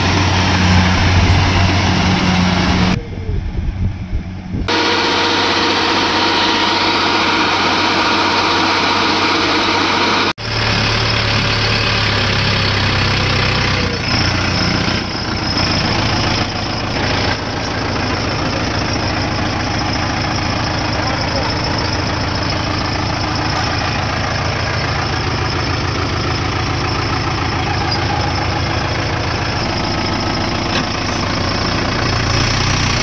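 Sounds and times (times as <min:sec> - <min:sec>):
combine harvester running: 0:00.0 - 0:33.0
tractor diesel engine: 0:00.0 - 0:33.0.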